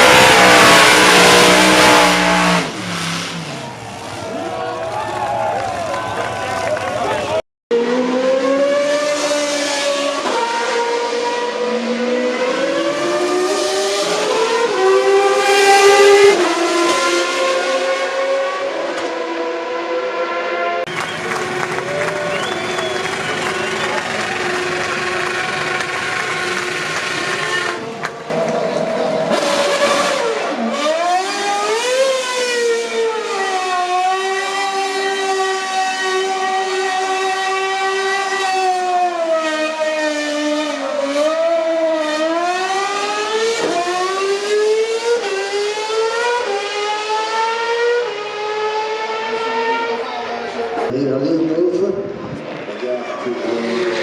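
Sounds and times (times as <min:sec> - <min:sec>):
race car engine revving: 0:00.0 - 0:04.6, 0:07.1 - 0:54.0.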